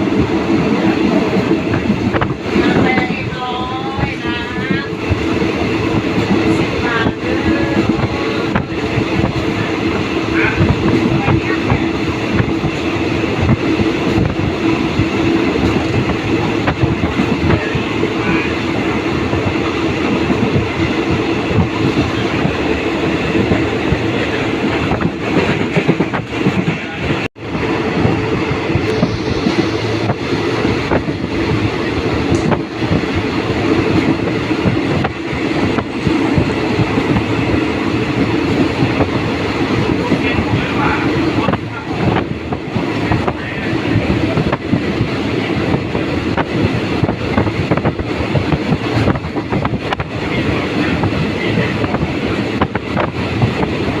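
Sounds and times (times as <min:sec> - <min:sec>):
train wheels rumbling and rattling: 0:00.0 - 0:54.0
wheels clickety-clack over rails: 0:00.0 - 0:54.0.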